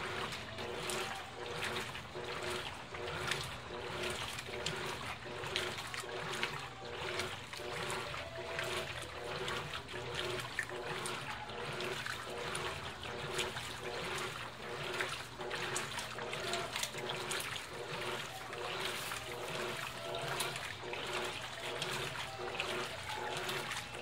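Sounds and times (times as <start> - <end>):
washing machine motor hum: 0.0 - 24.0
water sloshing in washing machine: 0.0 - 24.0.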